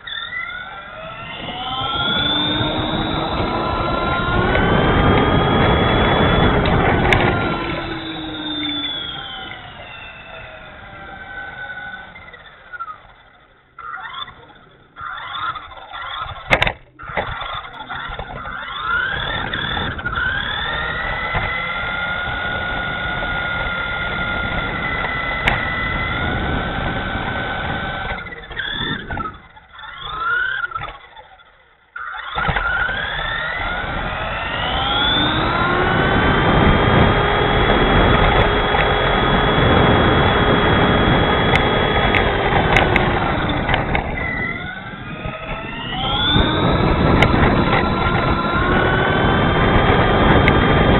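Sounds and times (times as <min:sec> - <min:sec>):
electric motor whining: 0:00.0 - 0:50.9
tyre road rumble: 0:00.0 - 0:50.9.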